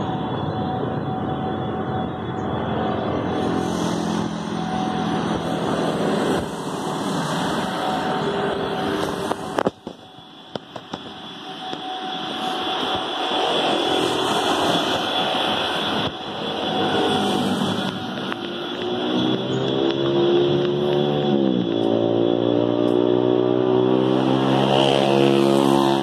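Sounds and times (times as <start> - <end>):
motorcycles: 0.0 - 11.1, 12.4 - 26.0
road traffic passing: 0.0 - 26.0.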